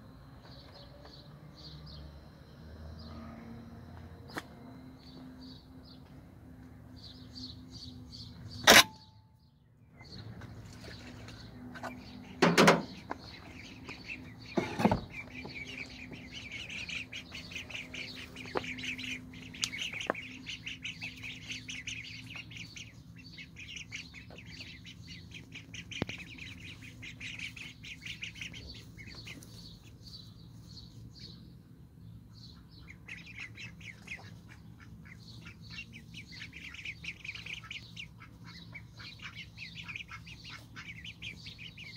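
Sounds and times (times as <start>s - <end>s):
ducklings peeping: 0.4s - 8.8s, 9.4s - 41.9s.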